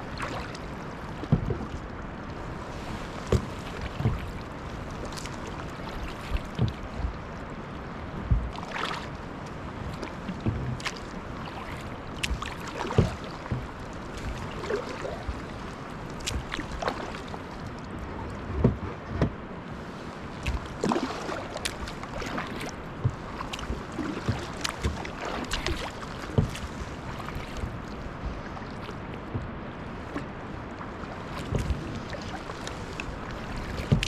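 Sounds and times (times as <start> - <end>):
paddle blades splashing: 0.0 - 34.0
water washing: 2.4 - 17.8, 19.7 - 30.3, 30.9 - 34.0.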